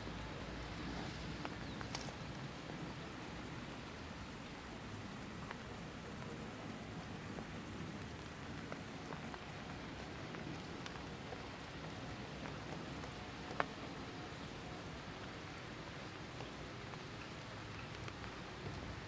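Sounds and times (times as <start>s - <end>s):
drops ticking on leaves: 0.0s - 19.0s
light rain: 0.0s - 19.0s.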